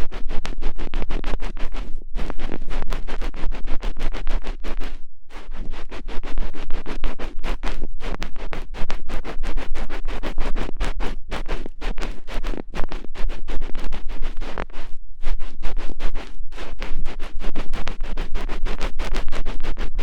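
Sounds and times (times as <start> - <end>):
ear pick scratching microphone: 0.0 - 20.0.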